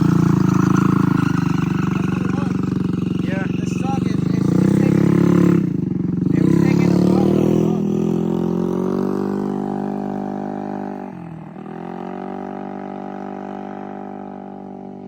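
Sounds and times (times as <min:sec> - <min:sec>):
moped engine running: 0:00.0 - 0:15.0.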